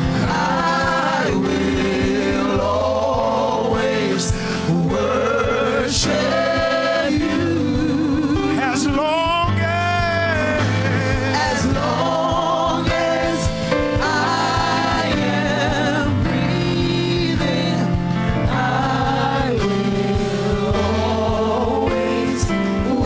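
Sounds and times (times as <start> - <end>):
voices singing with vibrato: 0.0 - 23.0.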